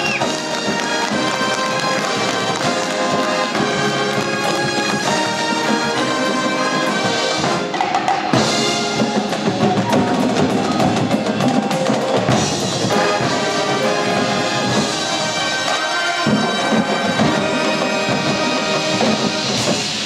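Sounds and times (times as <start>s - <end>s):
brass chords: 0.0s - 20.0s
snare tenor and bass drums: 0.0s - 20.0s.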